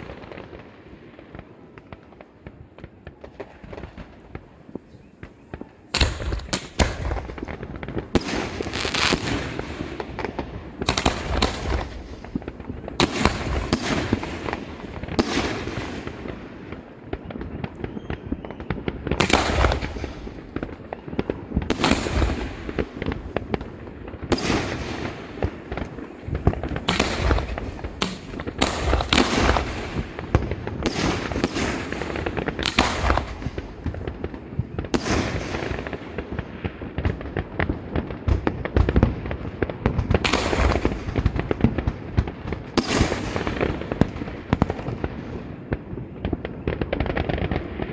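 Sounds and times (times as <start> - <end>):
fireworks banging and crackling: 0.0 - 47.9.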